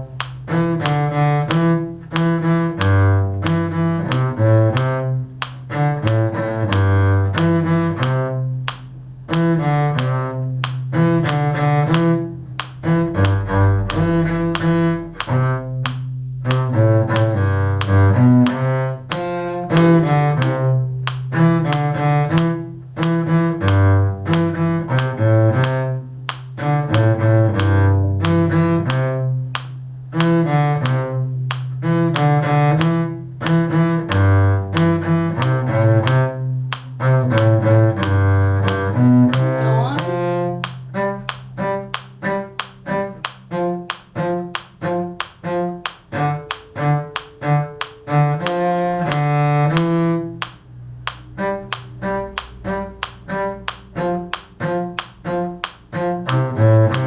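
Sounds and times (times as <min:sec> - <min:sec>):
bowed string instrument: 0:00.0 - 0:57.0.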